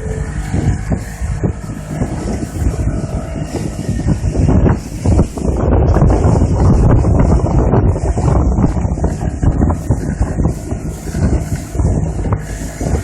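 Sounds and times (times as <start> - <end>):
boat underway: 0.0 - 13.0
wind buffeting microphone: 0.0 - 13.0.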